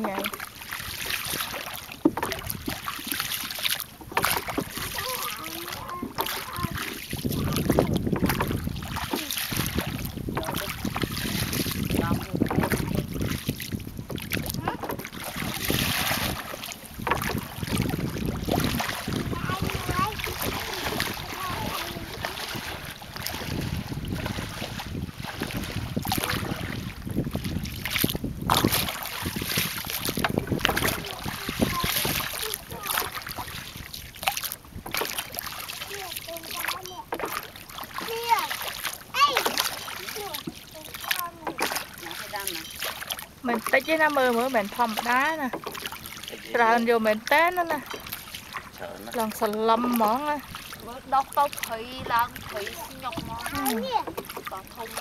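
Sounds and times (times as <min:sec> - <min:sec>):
paddle splashing through water: 0:00.0 - 0:55.0
wind buffeting microphone: 0:00.9 - 0:03.0, 0:04.0 - 0:42.6, 0:43.3 - 0:55.0.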